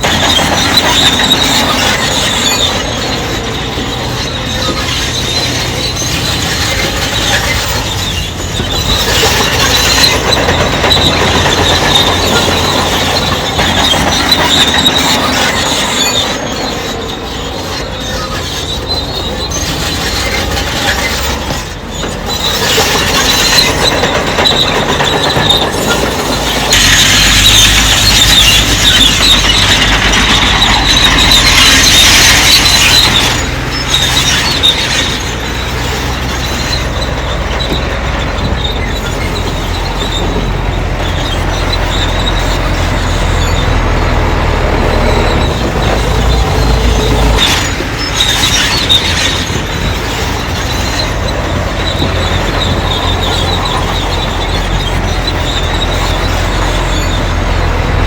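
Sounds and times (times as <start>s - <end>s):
crawler tracks grinding and squealing: 0.0s - 58.0s
diesel engine running: 0.0s - 58.0s.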